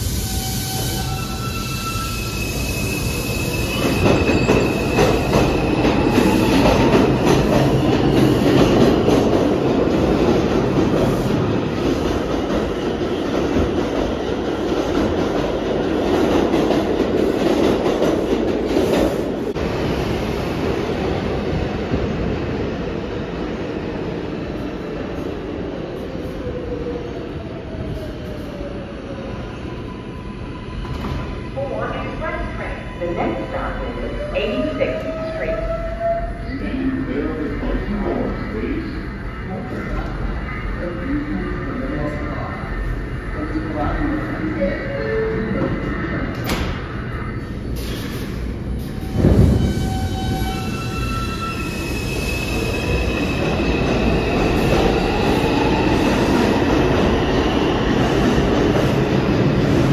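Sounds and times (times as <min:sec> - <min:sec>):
subway train pulling out: 0:00.0 - 0:59.9.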